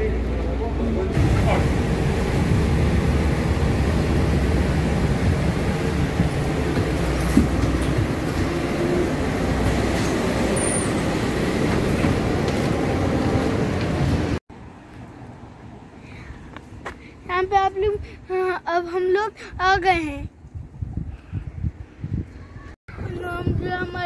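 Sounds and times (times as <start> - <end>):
bus engine and road rumble: 0.0 - 19.3.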